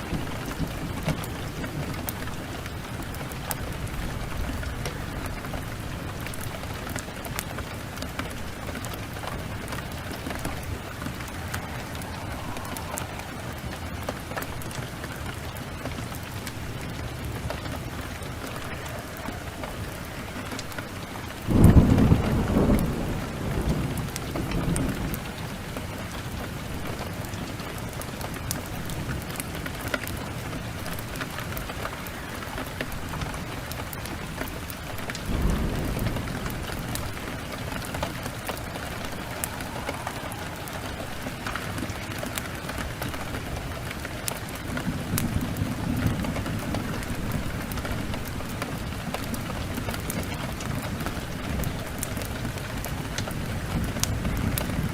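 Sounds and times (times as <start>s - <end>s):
thunder: 0.0s - 29.2s, 32.0s - 54.9s
rain falling: 0.0s - 54.9s.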